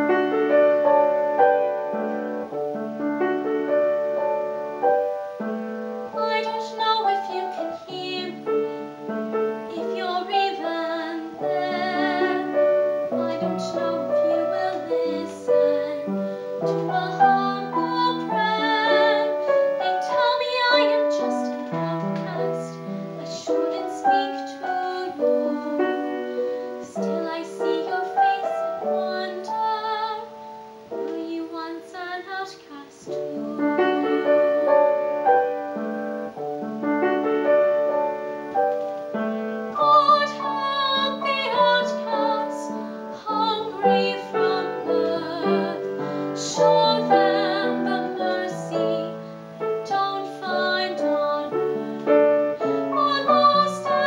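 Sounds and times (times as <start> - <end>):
piano accompaniment: 0.0 - 54.0
girl singing ballad with vibrato: 6.1 - 36.4, 39.6 - 54.0.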